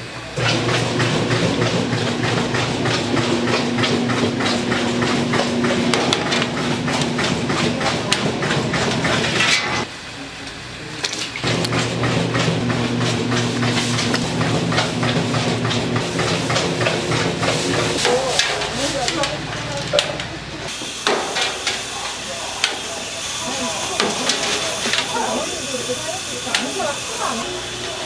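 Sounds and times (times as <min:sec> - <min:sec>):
machine humming and clattering: 0:00.0 - 0:09.9, 0:11.0 - 0:28.0.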